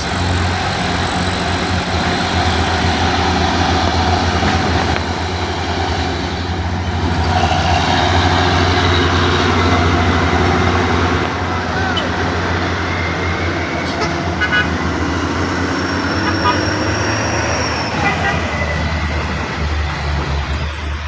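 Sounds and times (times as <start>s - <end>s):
diesel truck engines droning: 0.0s - 21.0s.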